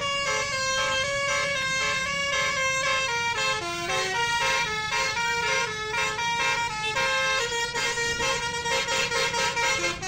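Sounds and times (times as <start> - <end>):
bus musical horn playing a tune: 0.0 - 10.0.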